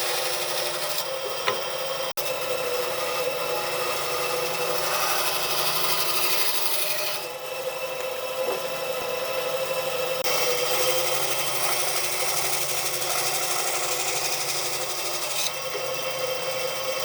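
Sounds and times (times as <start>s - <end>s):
power tool rasping wood: 0.0s - 7.3s, 10.1s - 17.0s.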